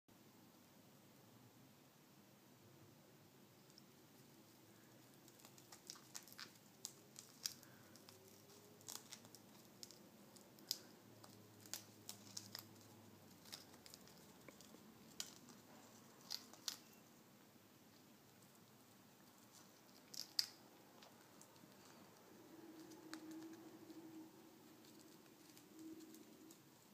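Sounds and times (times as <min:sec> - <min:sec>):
parrot chewing toy: 0:03.6 - 0:26.9.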